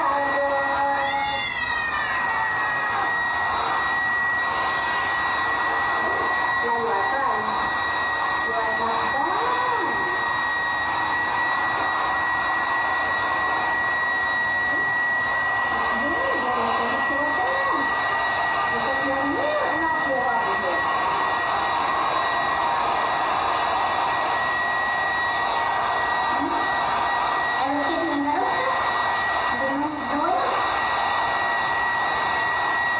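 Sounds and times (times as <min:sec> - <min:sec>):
hair dryer running: 0:00.0 - 0:32.9.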